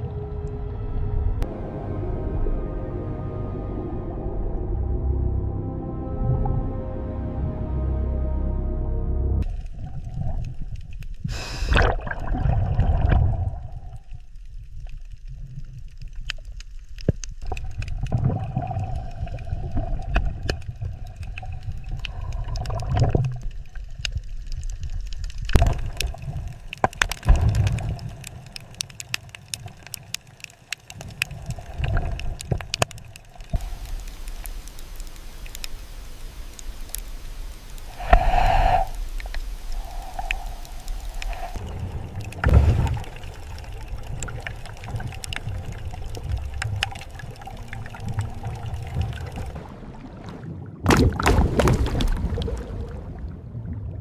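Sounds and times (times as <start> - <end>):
underwater gurgling and rumbling: 9.4 - 54.0.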